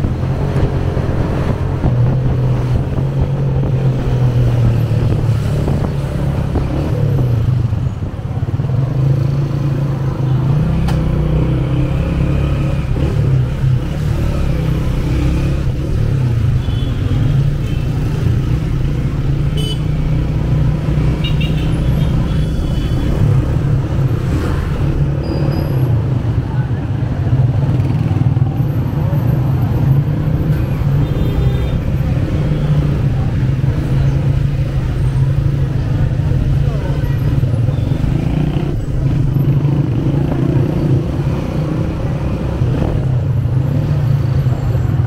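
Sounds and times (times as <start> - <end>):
surrounding traffic noise: 0.0 - 45.0.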